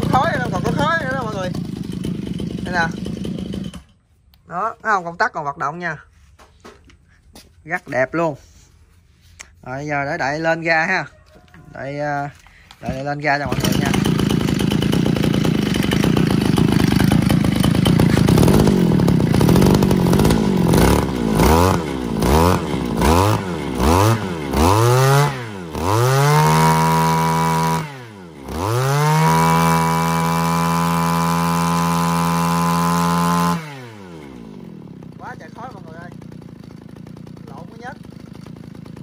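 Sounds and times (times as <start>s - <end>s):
brush cutter engine revving: 0.0s - 5.3s, 9.4s - 39.0s.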